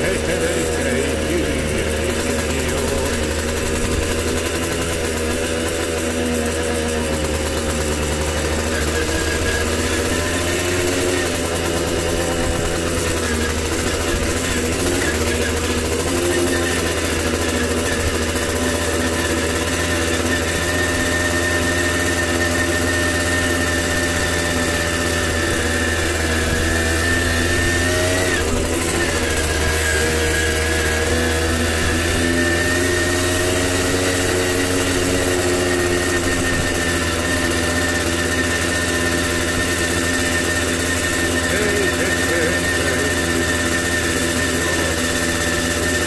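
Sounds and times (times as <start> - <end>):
two-stroke engine running: 0.0 - 46.0.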